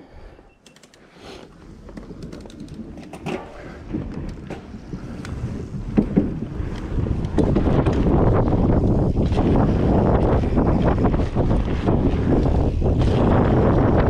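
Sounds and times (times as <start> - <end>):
bike clicks and rattles: 0.6 - 14.0
bike tyres on dirt: 1.2 - 14.0
wind on microphone: 1.7 - 14.0.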